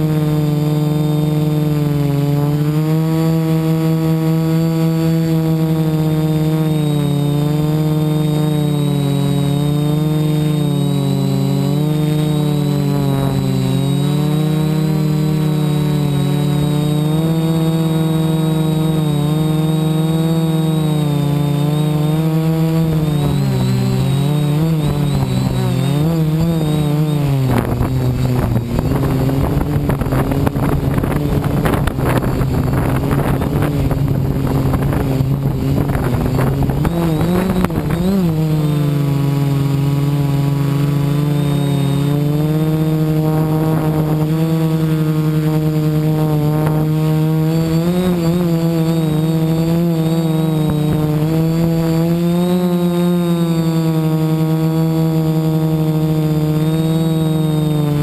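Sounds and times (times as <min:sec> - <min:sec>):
quadcopter motors droning whine: 0:00.0 - 0:58.0.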